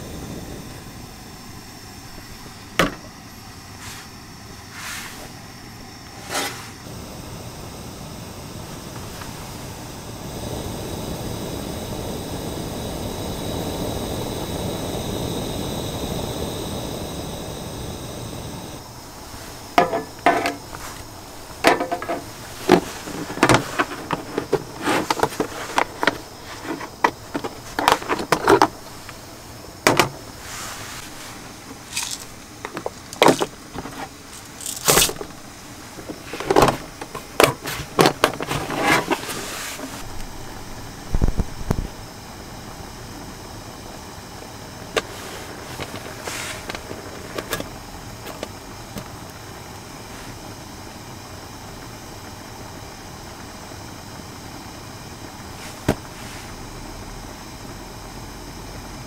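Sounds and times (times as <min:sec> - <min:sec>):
gas stove burner hissing: 0:00.0 - 0:59.0.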